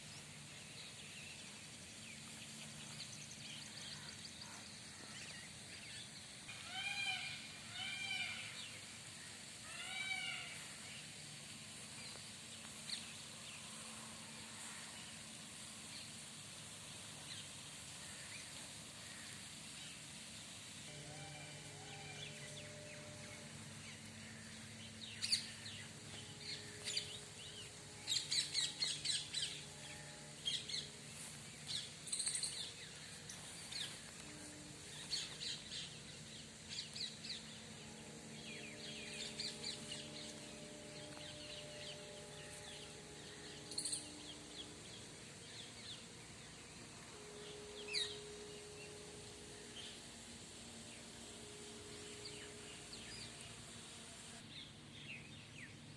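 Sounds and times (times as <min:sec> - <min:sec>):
small birds chirping: 0:00.0 - 0:21.0, 0:22.1 - 0:55.9
faint low hum: 0:00.0 - 0:55.9.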